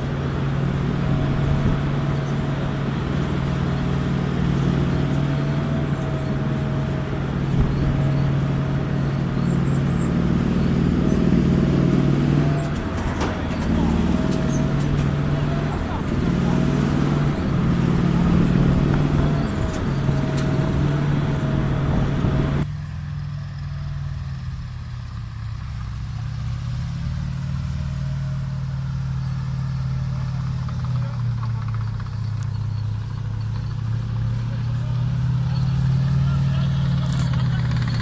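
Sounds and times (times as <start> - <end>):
tank engine drone: 0.0 - 38.0.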